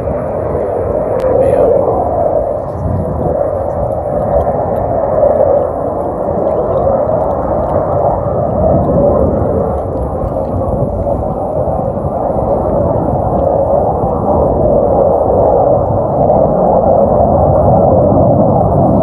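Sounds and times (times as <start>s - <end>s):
distant jet engine roar: 0.0s - 19.0s.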